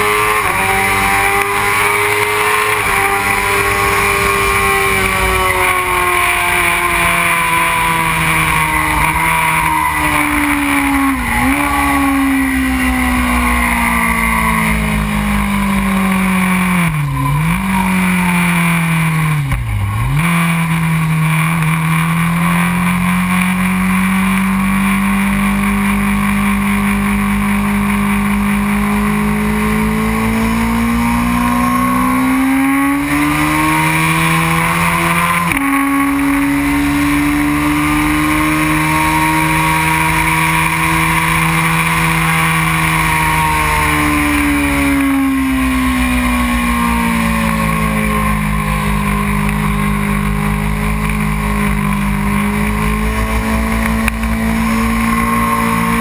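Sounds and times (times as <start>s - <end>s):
motorcycle engine running hard: 0.0s - 56.0s.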